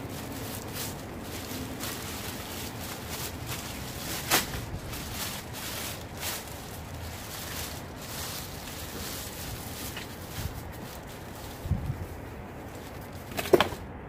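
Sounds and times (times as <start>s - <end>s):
bags rustling and handling: 0.0s - 13.8s
steady background hiss: 0.0s - 14.0s.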